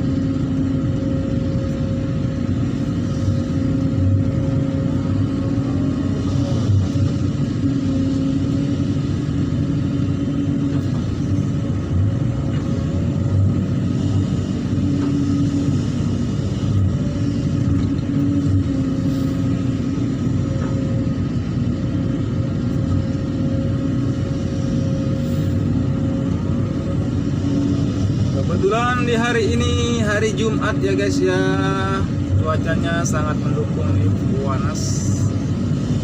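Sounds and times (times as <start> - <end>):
engine running with wavering hum: 0.0 - 36.0.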